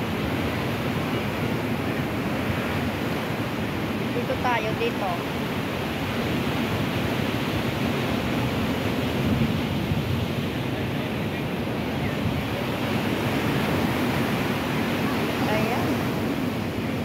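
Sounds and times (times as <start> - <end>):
sea surf breaking: 0.0 - 17.0
wind buffeting microphone: 0.0 - 17.0.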